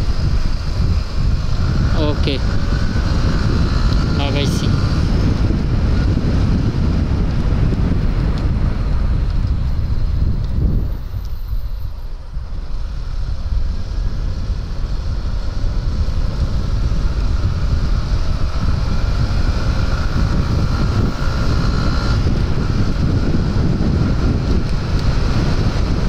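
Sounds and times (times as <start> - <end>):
faint motorcycle engine: 0.0 - 26.0
wind rushing over microphone: 0.0 - 26.0.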